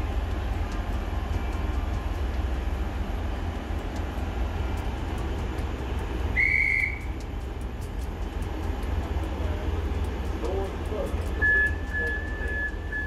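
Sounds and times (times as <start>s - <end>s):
diesel railcar idling: 0.0s - 13.0s.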